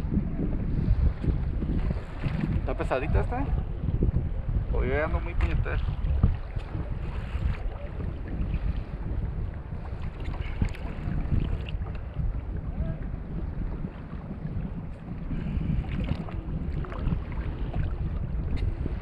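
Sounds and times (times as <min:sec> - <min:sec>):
water washing against hull: 0:00.0 - 0:19.0
wind buffeting microphone: 0:00.0 - 0:19.0.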